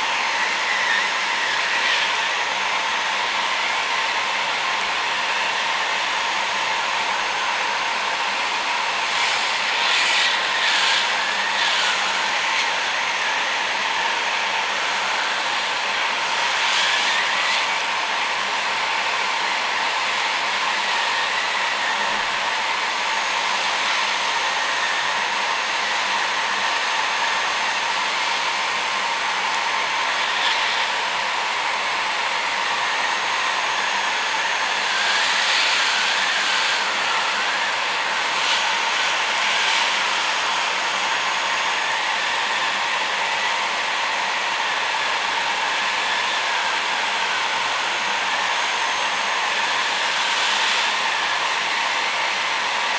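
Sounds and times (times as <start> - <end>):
heat gun blowing hot air: 0.0 - 52.9.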